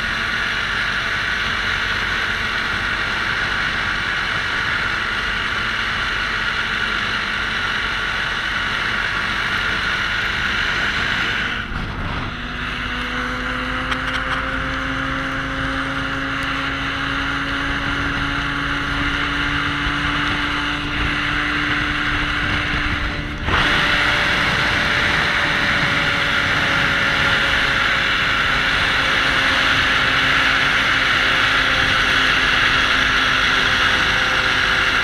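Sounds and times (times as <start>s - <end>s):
snowmobile engine running: 0.0s - 35.0s
steady rushing noise: 0.0s - 35.0s.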